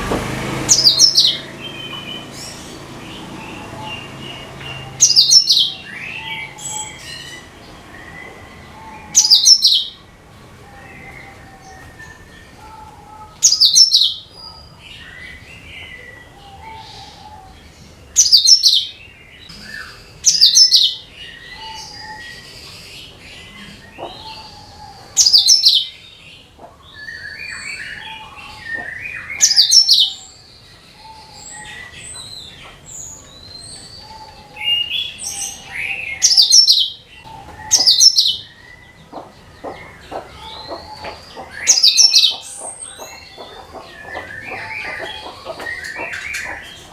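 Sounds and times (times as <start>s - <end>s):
bird singing loud high phrases: 0.0s - 46.9s
other birds chirping and whistling: 0.0s - 46.9s.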